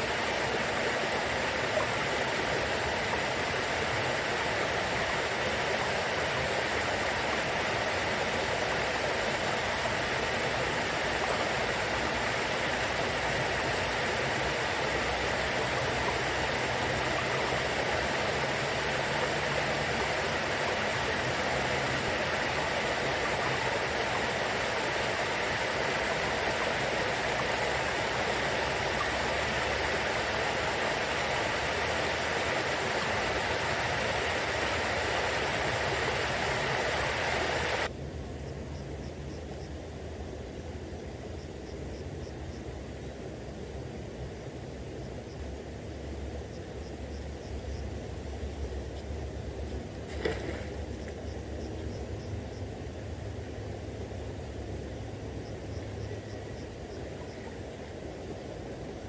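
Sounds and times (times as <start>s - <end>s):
river babbling: 0.0s - 38.0s, 39.6s - 59.0s.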